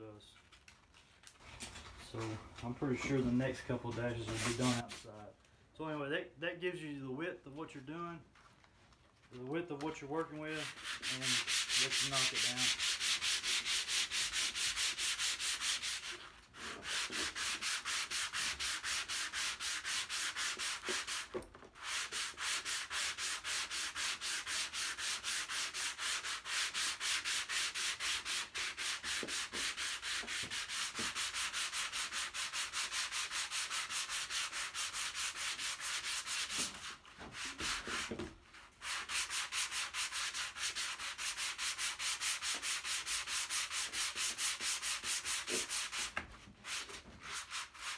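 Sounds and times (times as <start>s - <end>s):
sandpaper rubbing on filler: 2.9s - 5.1s, 10.4s - 47.9s.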